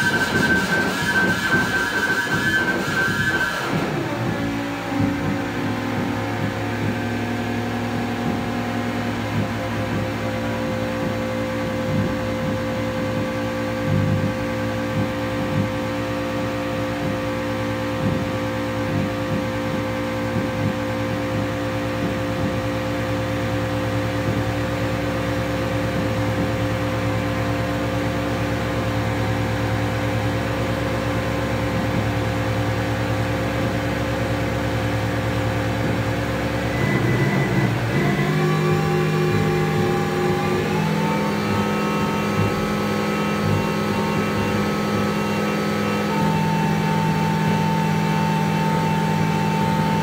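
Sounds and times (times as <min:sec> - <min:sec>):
synthesizer drone: 0:00.0 - 0:50.0.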